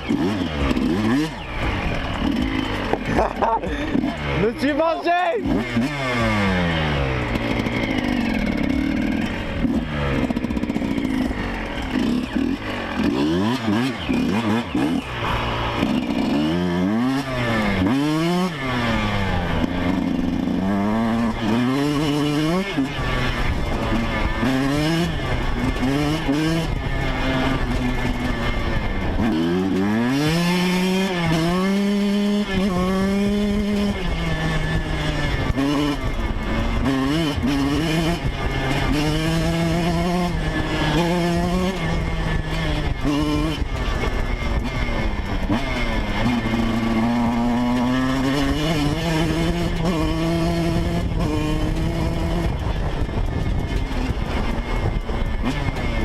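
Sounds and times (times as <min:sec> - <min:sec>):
motocross engine revving: 0:00.0 - 0:56.0.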